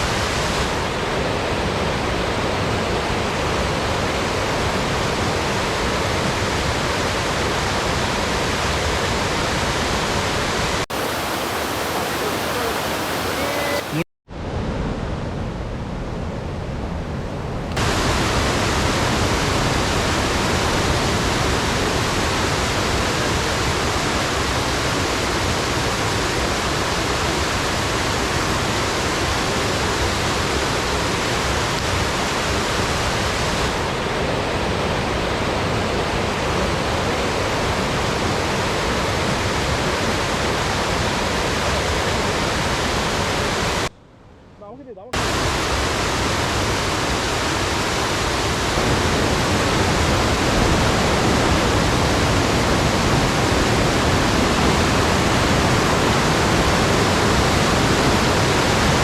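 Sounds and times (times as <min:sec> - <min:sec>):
waterfall rushing: 0:00.0 - 0:14.1, 0:17.8 - 0:43.9, 0:45.2 - 0:59.0.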